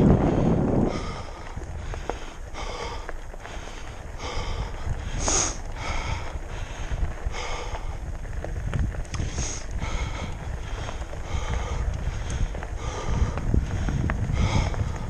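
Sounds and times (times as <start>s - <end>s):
person breathing hard and wheezing: 0.0s - 8.2s, 9.2s - 15.0s
wind rumble on microphone: 0.0s - 15.0s.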